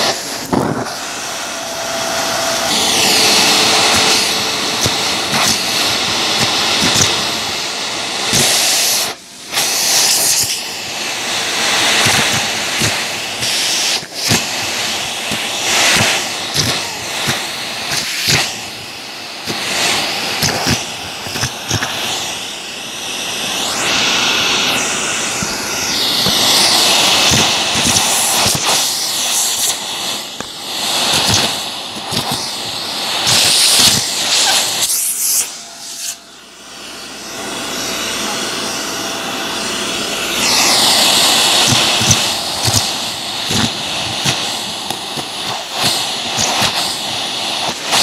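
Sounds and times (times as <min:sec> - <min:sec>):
vacuum suction rushing: 0:00.0 - 0:48.0.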